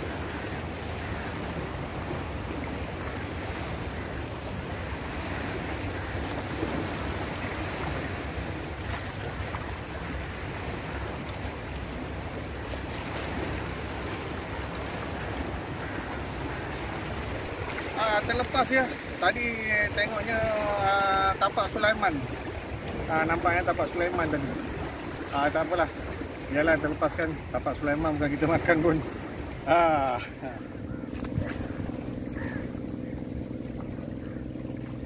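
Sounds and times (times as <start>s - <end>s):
small waves at shoreline: 0.0s - 35.0s.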